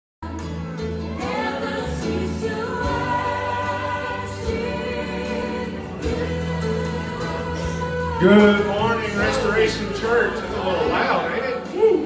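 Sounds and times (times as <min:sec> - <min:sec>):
voices singing worship music: 0:00.2 - 0:12.0.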